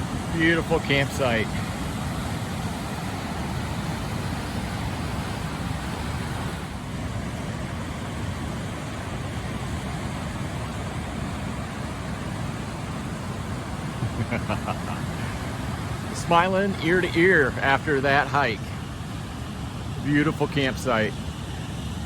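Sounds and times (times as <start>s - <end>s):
rushing whitewater roar: 0.0s - 22.0s.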